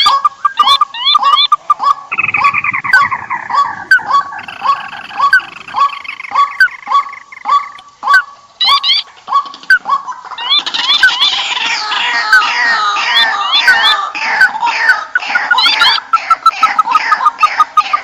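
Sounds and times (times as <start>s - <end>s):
birds honking calls: 0.0s - 18.0s
other birds calling: 0.0s - 18.0s.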